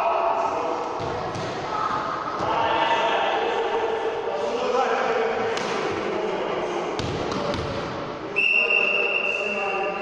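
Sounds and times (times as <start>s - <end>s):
murmur of voices: 0.0s - 10.0s.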